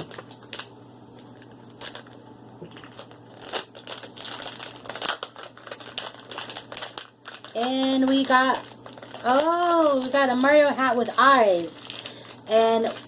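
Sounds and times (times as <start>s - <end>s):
toy packaging crinkling: 1.4s - 2.2s, 2.8s - 13.0s.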